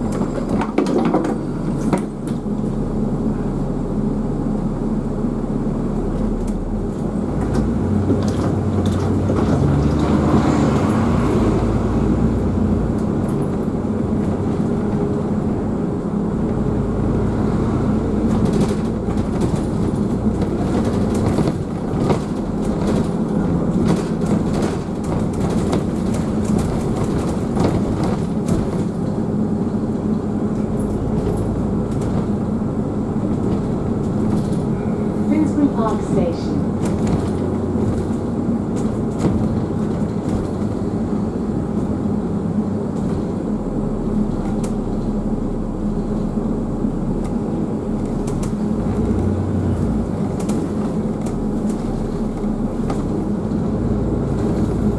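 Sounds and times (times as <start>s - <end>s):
bus engine and road rumble: 0.0s - 54.9s.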